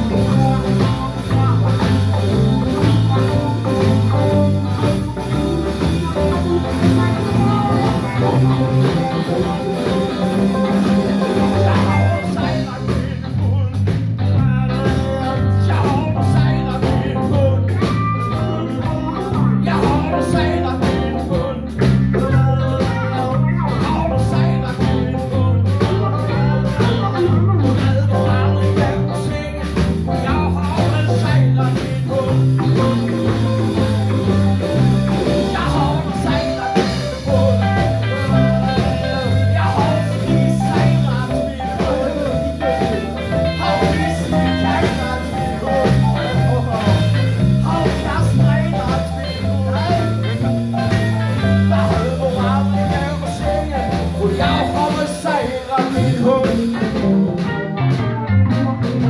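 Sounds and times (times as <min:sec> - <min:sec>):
live blues band playing: 0:00.0 - 0:59.0.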